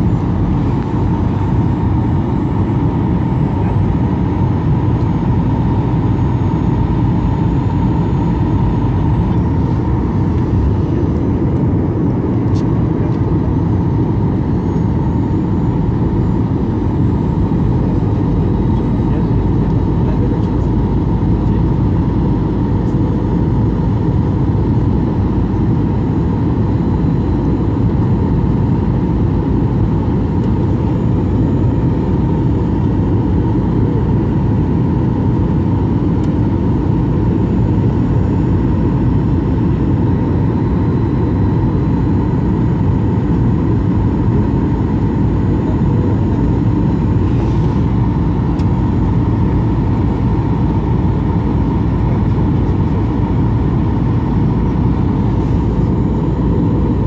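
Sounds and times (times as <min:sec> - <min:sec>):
aircraft cabin engine rush: 0:00.0 - 0:57.0.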